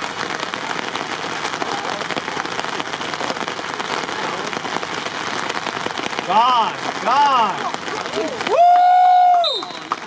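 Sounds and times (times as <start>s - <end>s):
faint voices: 0.0s - 8.6s
rain pattering: 0.0s - 10.0s.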